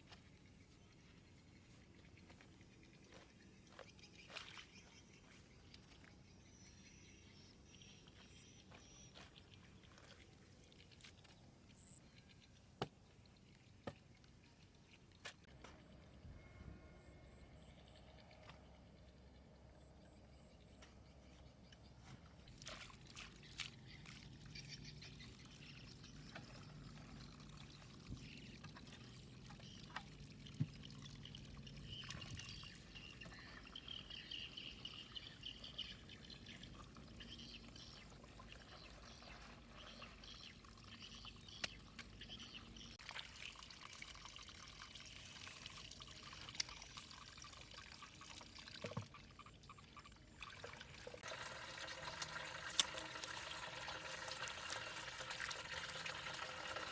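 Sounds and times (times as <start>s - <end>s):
water pouring and trickling: 0.0s - 56.9s.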